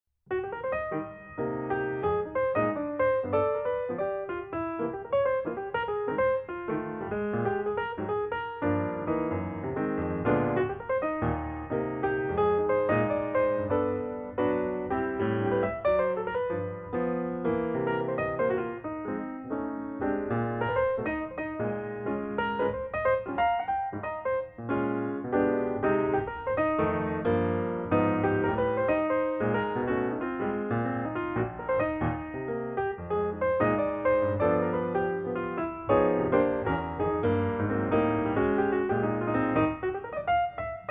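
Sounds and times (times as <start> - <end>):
flowing piano melody: 0.3 - 40.9.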